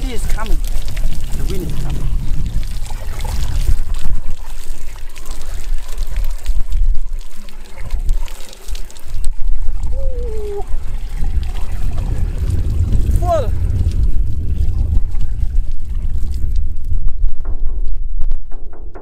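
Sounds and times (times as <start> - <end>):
wind buffeting microphone: 0.0 - 8.3, 9.0 - 18.8
water pouring and splashing: 0.0 - 18.5.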